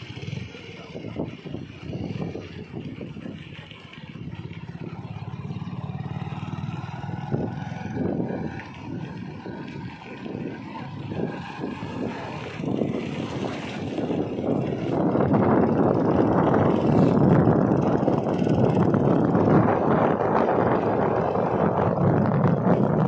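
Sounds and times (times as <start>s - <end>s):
motorcycle engine rumble: 0.0s - 23.0s
road noise: 0.0s - 23.0s.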